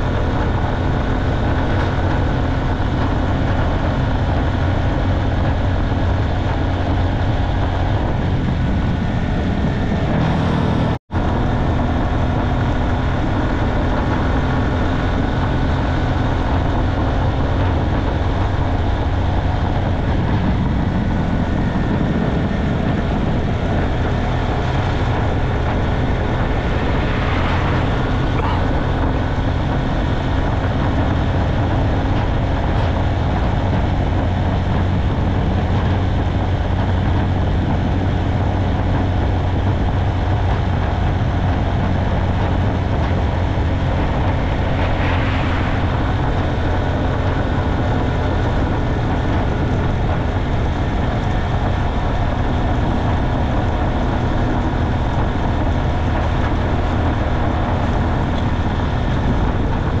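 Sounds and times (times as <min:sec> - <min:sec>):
motorcycle engine running: 0:00.0 - 1:00.0
wind and road noise: 0:00.0 - 1:00.0.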